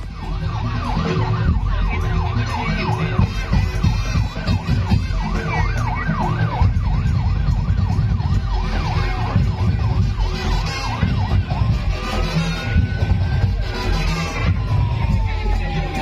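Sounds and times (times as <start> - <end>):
drums and bass beat: 0.0 - 16.0
siren-like keyboard tone: 0.0 - 16.0.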